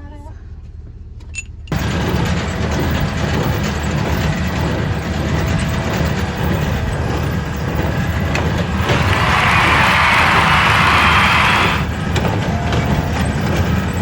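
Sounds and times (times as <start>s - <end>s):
diesel tractor engine rumbling: 1.7s - 14.0s
machinery noise: 1.7s - 14.0s.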